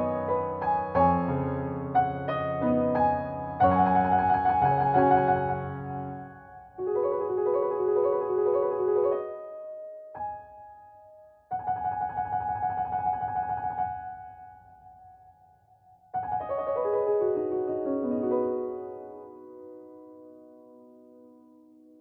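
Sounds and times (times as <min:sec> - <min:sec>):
piano music: 0:00.0 - 0:15.1, 0:16.1 - 0:22.0.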